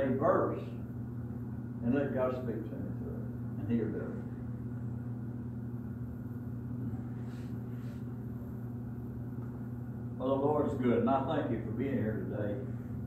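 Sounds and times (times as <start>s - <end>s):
steady low room hum: 0.0s - 13.0s.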